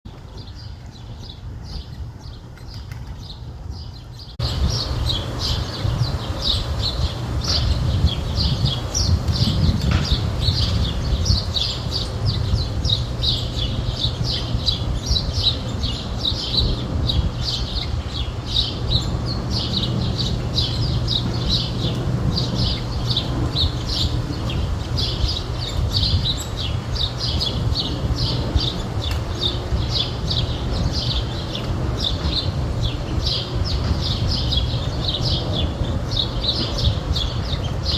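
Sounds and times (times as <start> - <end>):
bird chirping: 0.1 - 37.9.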